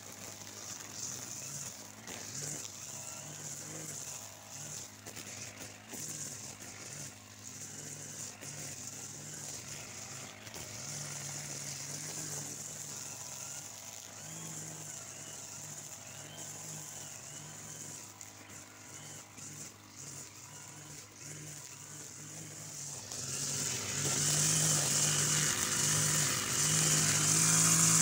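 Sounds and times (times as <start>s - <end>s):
brush cutter engine: 0.0s - 28.0s
high whirring hiss: 0.0s - 28.0s.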